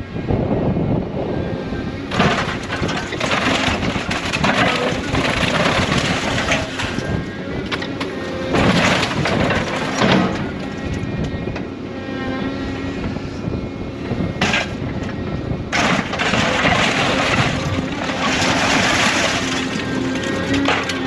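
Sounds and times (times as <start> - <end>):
heavy machine engine and hydraulics: 0.0 - 21.0.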